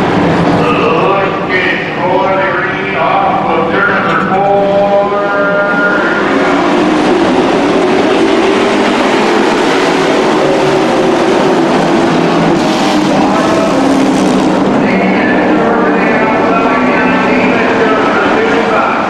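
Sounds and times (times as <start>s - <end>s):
race truck engines: 0.0s - 19.0s.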